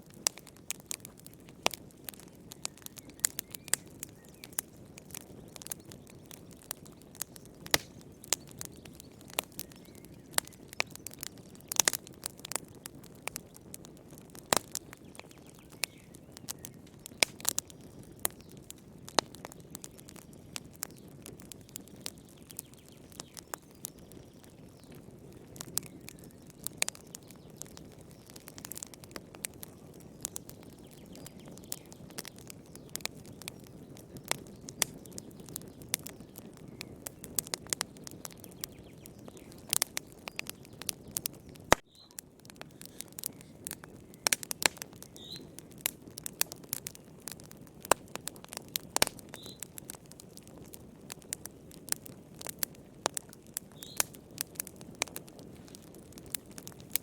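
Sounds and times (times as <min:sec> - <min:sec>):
low rush of flames: 0:00.0 - 0:23.6, 0:24.2 - 0:57.0
fire crackling and popping: 0:00.0 - 0:57.0.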